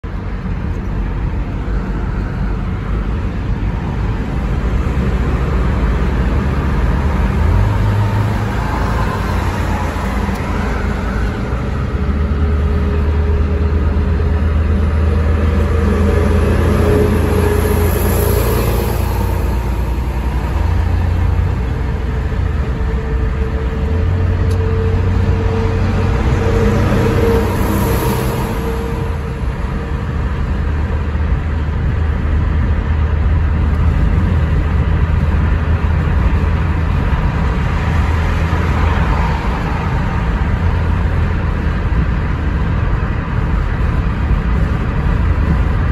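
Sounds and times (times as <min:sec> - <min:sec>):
car engine and tyre rumble: 0:00.0 - 0:45.9
low hum: 0:00.2 - 0:45.9.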